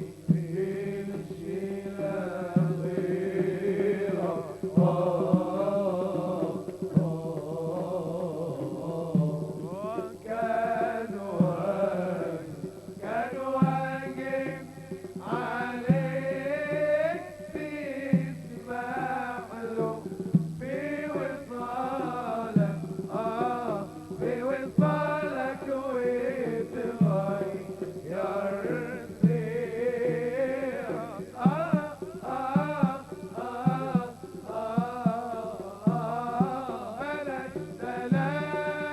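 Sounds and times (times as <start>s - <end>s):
drum strokes: 0.0s - 38.9s.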